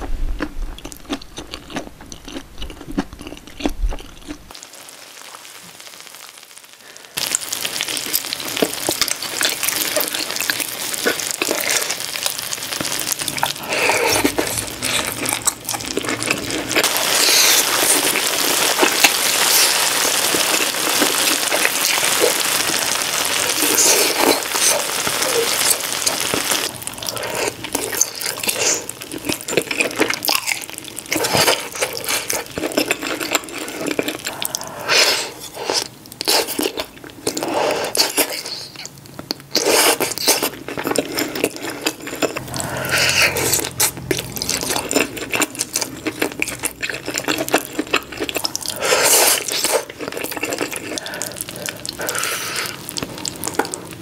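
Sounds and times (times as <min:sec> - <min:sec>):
chewing and mouth smacking: 0:00.4 - 0:04.5, 0:08.6 - 0:19.8, 0:23.5 - 0:54.0.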